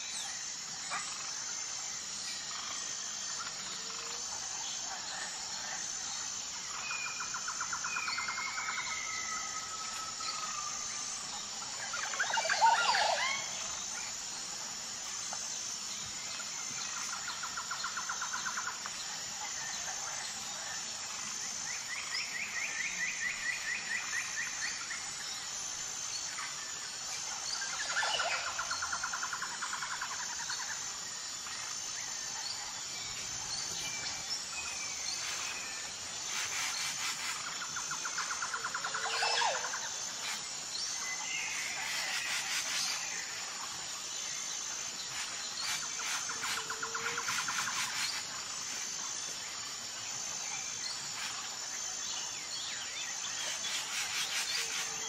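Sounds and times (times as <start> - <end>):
pulsing insect drone: 0.0 - 55.0.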